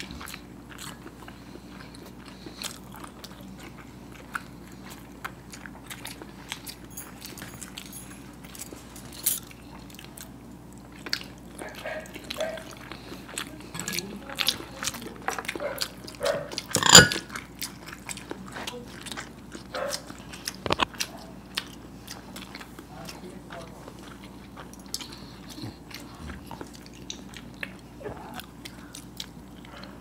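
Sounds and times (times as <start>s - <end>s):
people chewing with mouth smacks: 0.0s - 30.0s.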